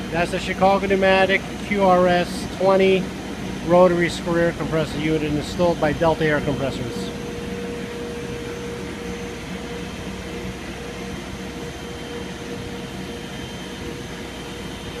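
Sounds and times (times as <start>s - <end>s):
air compressor rushing noise: 0.0s - 15.0s.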